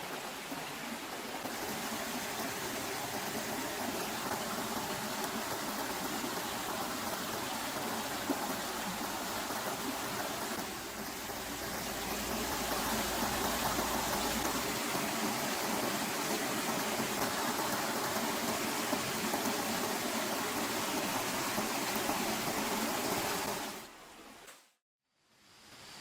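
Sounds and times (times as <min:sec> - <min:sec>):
water rushing: 0:00.0 - 0:24.4.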